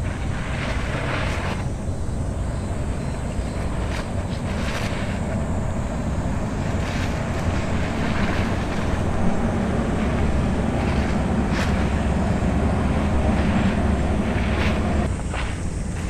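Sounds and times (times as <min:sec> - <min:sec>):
jet boat low rumble: 0:00.0 - 0:16.0
wind buffeting microphone: 0:00.0 - 0:16.0.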